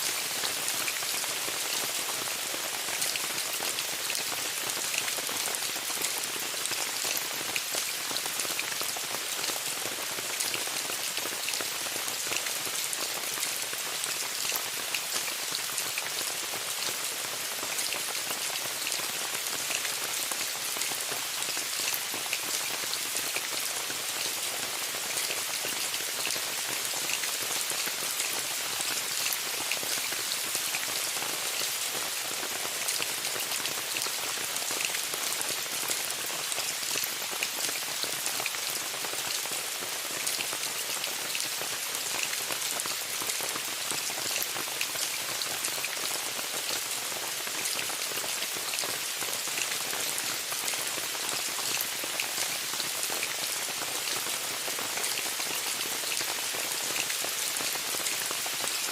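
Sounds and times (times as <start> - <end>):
rain on a tent: 0.0 - 58.9.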